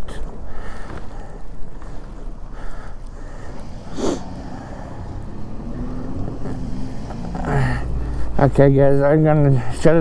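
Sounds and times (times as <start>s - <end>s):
rider snorting breath: 0.0s - 8.4s.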